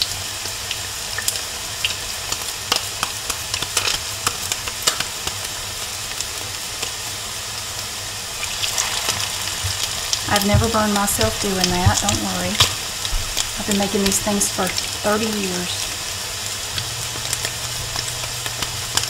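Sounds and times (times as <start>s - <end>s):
patties sizzling in oil: 0.0s - 19.0s.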